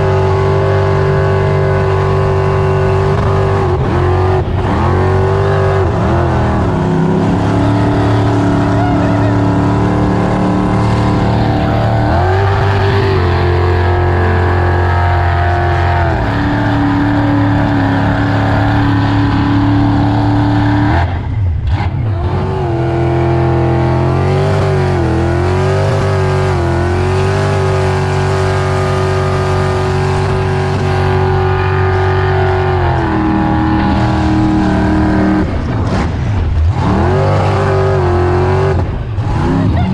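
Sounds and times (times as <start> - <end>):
boat engine running hard: 0.0 - 21.0, 22.2 - 39.9.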